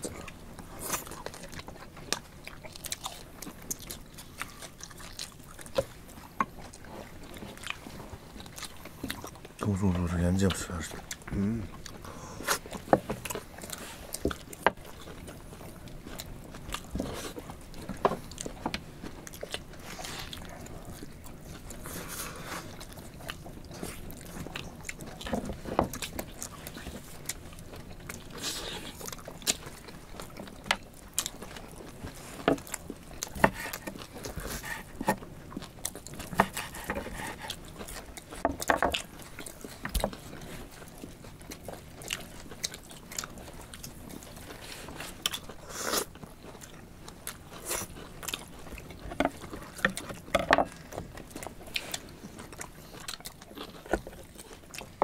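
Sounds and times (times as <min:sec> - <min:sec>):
chewing and biting: 0:00.0 - 0:55.0.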